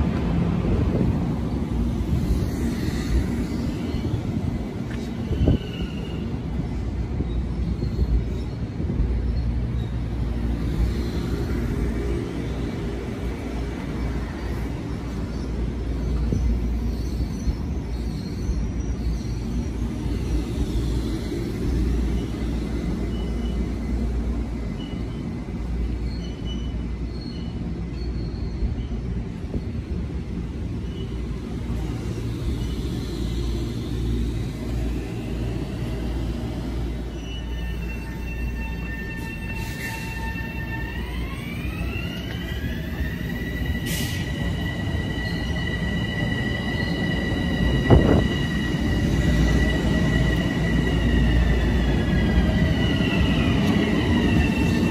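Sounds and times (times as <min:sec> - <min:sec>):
train rumbling: 0:00.0 - 0:54.9
faint high squeals: 0:02.3 - 0:12.6, 0:14.4 - 0:24.0, 0:24.6 - 0:29.8, 0:30.8 - 0:54.9.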